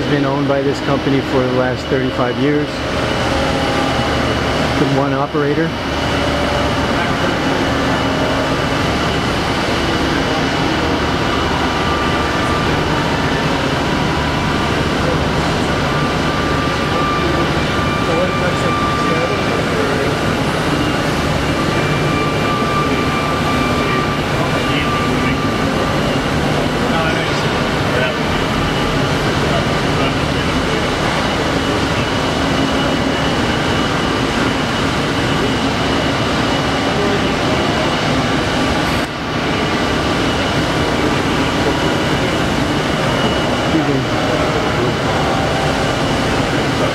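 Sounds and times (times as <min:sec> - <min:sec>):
industrial hum: 0:00.0 - 0:46.9
lathe running: 0:00.0 - 0:46.9.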